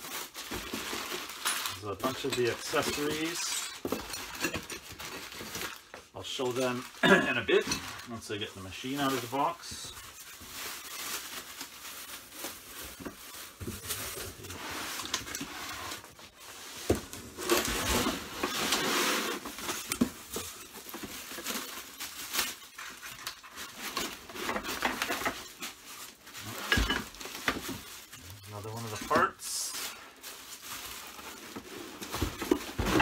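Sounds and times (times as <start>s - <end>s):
packing material rustling: 0.0s - 33.0s.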